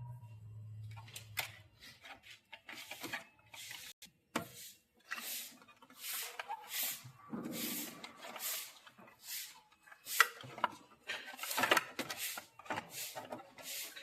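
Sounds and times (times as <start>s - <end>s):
scraping and rustling: 1.0s - 14.0s.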